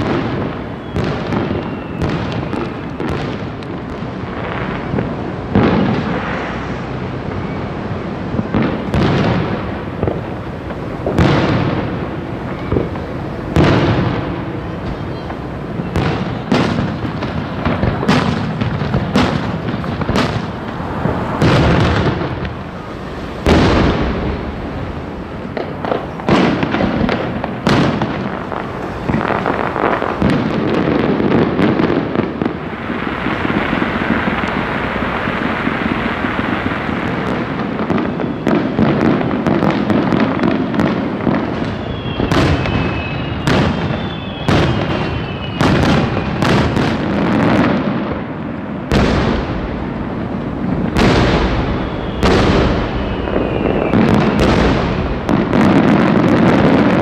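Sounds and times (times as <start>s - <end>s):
firework bangs and booms: 0.0s - 57.0s
firework crackling: 0.0s - 57.0s.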